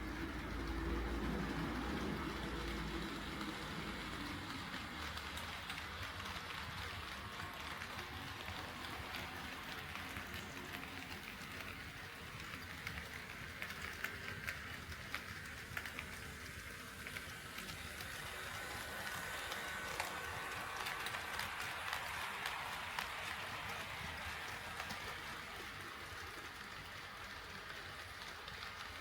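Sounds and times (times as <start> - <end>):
model train rolling rattle: 0.0 - 29.0
wheels clicking over track joints: 0.0 - 29.0.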